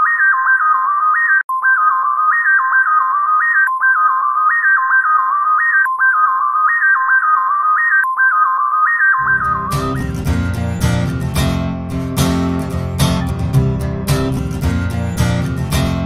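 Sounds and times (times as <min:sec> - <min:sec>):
phone ringtone beeping melody: 0:00.0 - 0:13.5.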